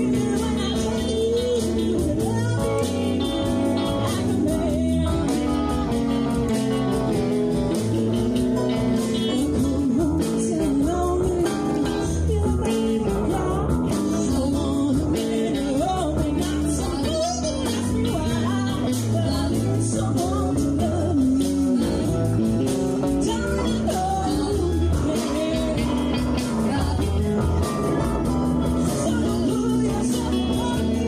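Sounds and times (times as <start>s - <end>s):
live blues band: 0.0s - 31.0s
woman singing: 0.0s - 31.0s.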